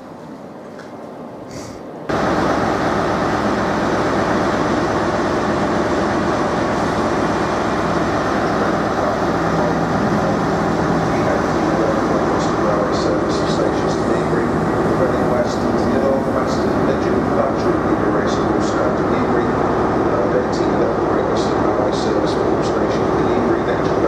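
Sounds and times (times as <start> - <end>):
train rumble: 0.0 - 24.0
diesel engine running: 2.1 - 24.0.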